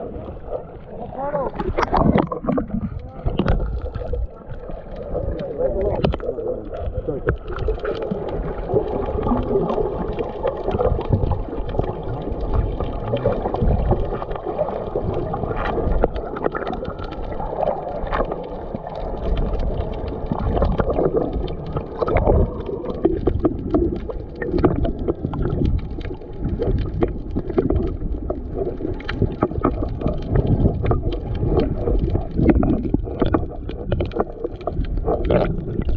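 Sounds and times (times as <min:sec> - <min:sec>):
underwater sloshing and gurgling: 0:00.0 - 0:35.9
small sharp clicks and crackles: 0:01.5 - 0:35.9.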